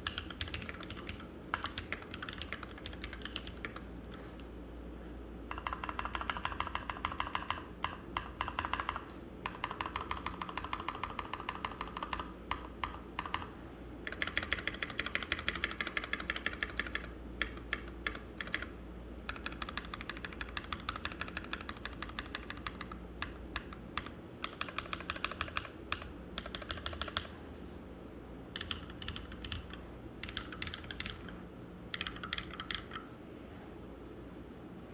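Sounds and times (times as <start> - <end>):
typing on mechanical keyboard: 0.0 - 4.4, 5.5 - 27.4, 28.5 - 33.1.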